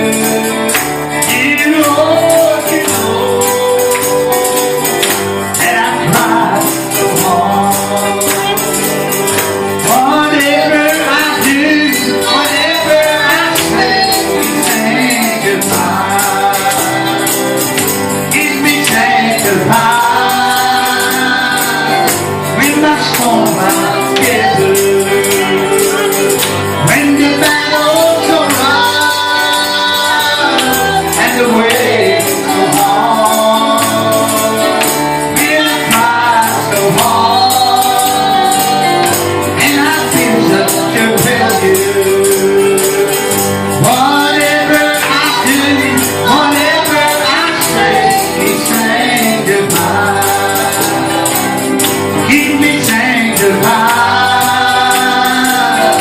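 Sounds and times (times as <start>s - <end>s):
gospel music instruments: 0.0s - 56.0s
tambourine shaken in rhythm: 0.0s - 56.0s
voices singing: 0.0s - 56.0s.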